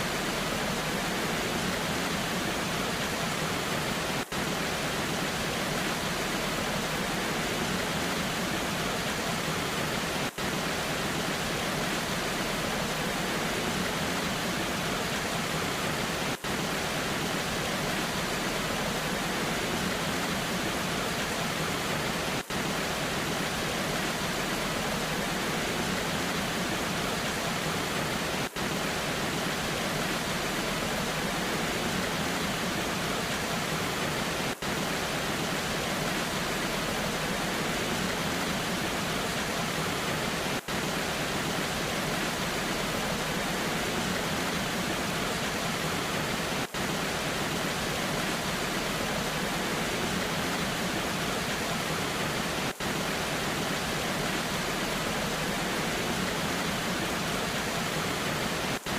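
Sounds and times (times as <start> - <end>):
rain falling: 0.0 - 58.9
waterfall rushing: 0.0 - 58.9.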